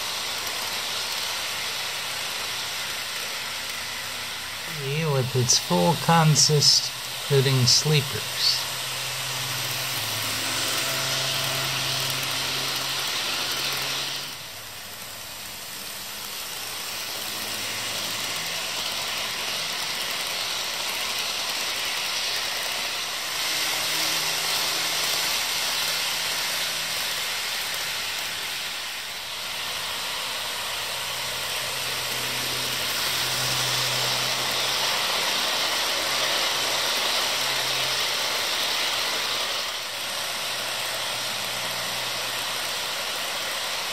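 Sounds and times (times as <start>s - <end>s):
model train running on track: 0.0s - 43.9s.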